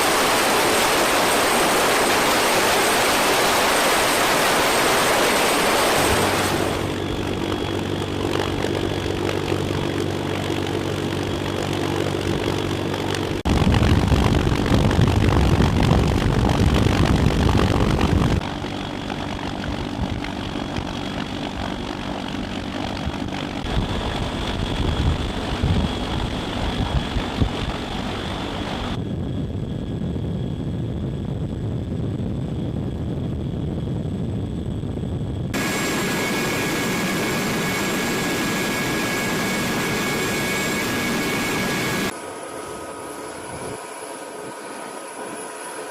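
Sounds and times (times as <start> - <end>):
aircraft engine noise: 0.0 - 45.9.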